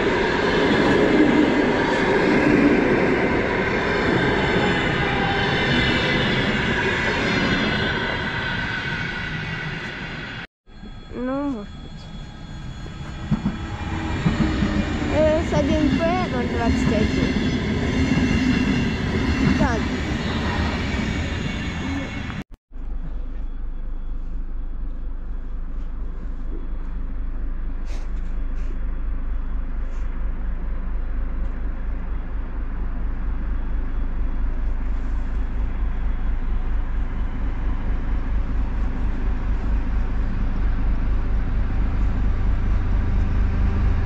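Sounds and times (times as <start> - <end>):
diesel locomotive rumbling: 0.0 - 44.0
electric train passing: 0.0 - 44.0.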